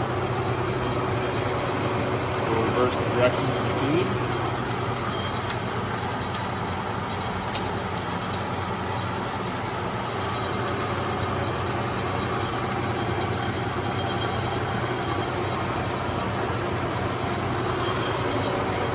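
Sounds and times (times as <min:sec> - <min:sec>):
milling machine gear hum and whine: 0:00.0 - 0:18.9.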